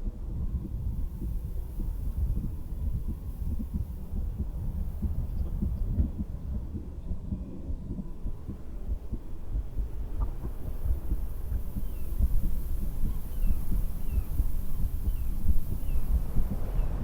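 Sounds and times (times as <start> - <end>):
muffled heartbeat thumps: 0.0 - 17.0.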